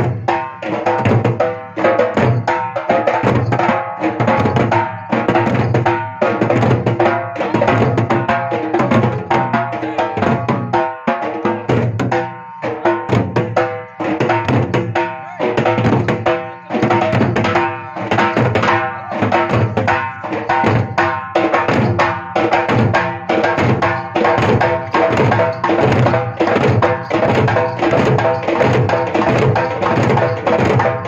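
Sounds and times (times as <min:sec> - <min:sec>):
barrel drums beating: 0:00.0 - 0:31.0.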